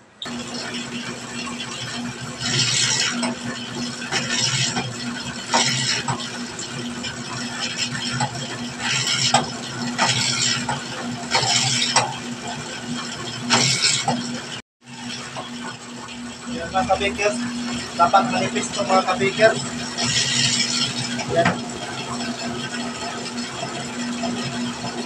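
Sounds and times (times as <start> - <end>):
dough roller humming: 0.2 - 25.0
dough scraping through rollers: 0.3 - 25.0.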